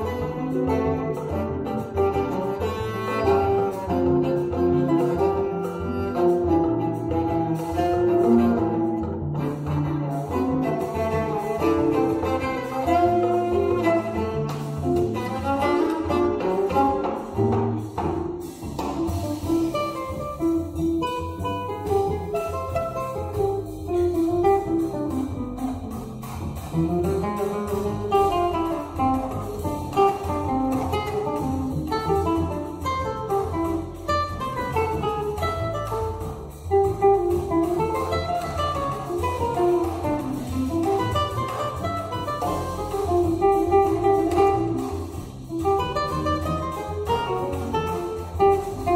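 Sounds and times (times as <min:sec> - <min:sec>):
cello: 0:00.0 - 0:48.9
drum kit: 0:00.0 - 0:48.9
nylon-string acoustic guitar: 0:00.0 - 0:48.9.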